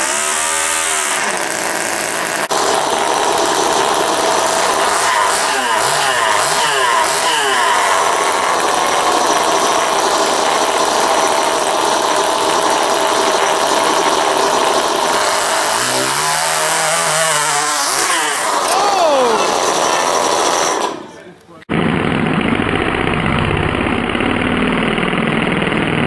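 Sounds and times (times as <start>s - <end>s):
model engines revving high: 0.0s - 21.0s, 21.7s - 26.0s.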